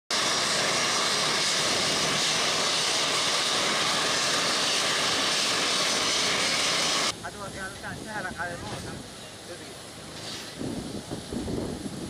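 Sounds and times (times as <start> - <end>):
jet engines whining: 0.1 - 12.0.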